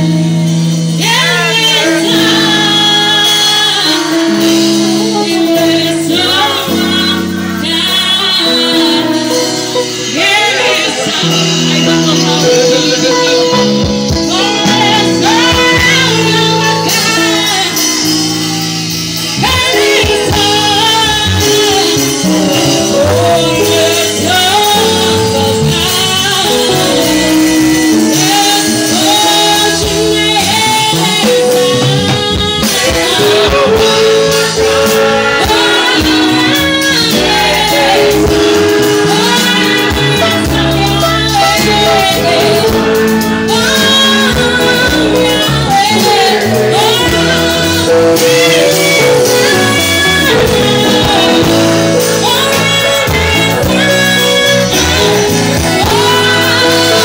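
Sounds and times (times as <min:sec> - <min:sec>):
band with drums and keyboard: 0:00.0 - 0:57.0
woman singing through microphone: 0:00.0 - 0:57.0.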